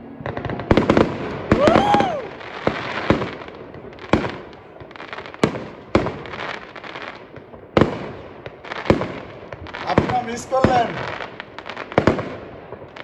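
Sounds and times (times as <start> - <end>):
firework crackle: 0.0 - 13.0
firework bangs: 0.1 - 13.0.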